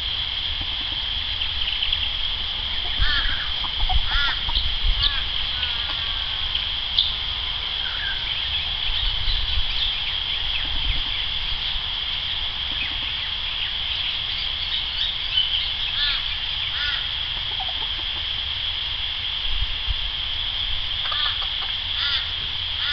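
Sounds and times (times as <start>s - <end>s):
hen calling: 0.0s - 11.8s, 12.6s - 18.4s, 21.0s - 22.9s
birds alarm calls: 0.0s - 19.5s, 20.3s - 22.9s
steady high-pitched buzz: 0.0s - 22.9s.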